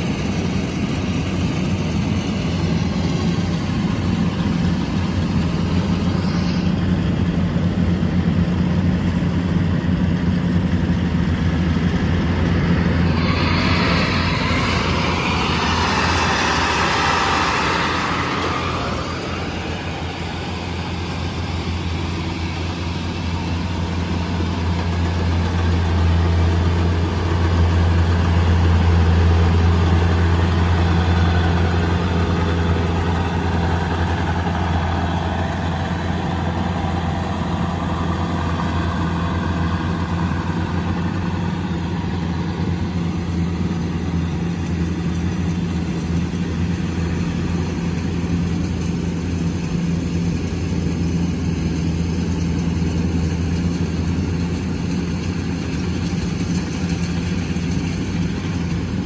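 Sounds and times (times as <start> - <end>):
harvester diesel engine drone: 0.0 - 59.0.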